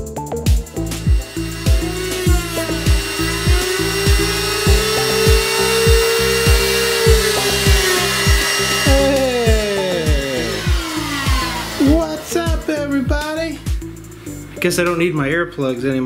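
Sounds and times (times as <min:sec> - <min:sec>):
electronic music with drum beat: 0:00.0 - 0:14.2
drill bit boring into board: 0:00.5 - 0:13.8.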